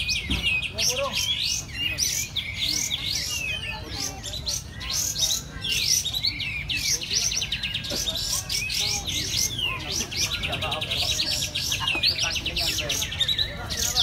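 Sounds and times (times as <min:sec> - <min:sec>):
chorus of songbirds singing: 0:00.0 - 0:14.0.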